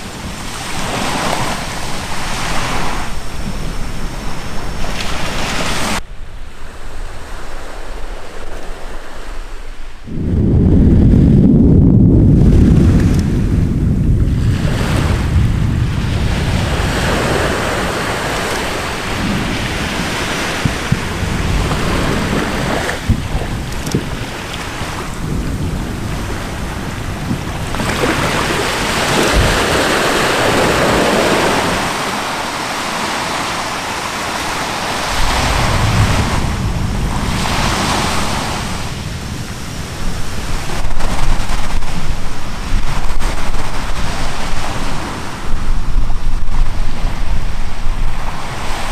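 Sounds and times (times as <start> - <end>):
surf: 0.0 - 48.9
wind: 0.0 - 48.9
wind buffeting microphone: 0.0 - 48.9.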